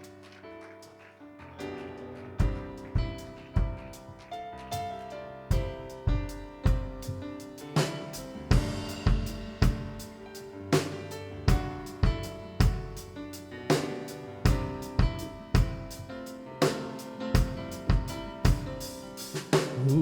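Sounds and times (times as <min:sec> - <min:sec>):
drum kit steady beat: 0:02.4 - 0:20.0.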